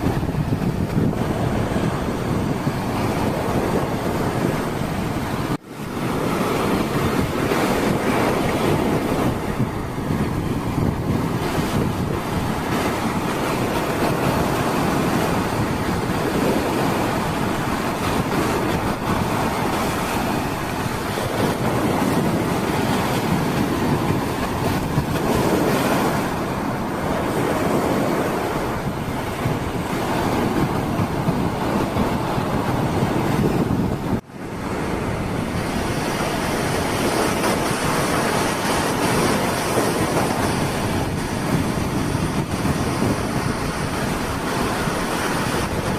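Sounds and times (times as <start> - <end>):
sea surf on beach: 0.0 - 45.9
wind buffeting microphone: 0.0 - 45.9.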